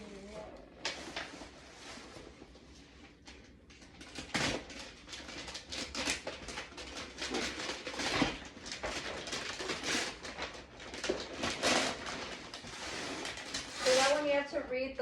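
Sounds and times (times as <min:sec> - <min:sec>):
gift wrapping rustling and tearing: 0:00.0 - 0:14.7.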